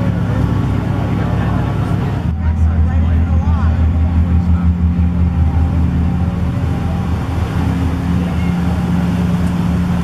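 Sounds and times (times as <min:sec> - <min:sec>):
diesel engines droning: 0:00.0 - 0:10.0
propellers churning water: 0:00.0 - 0:10.0.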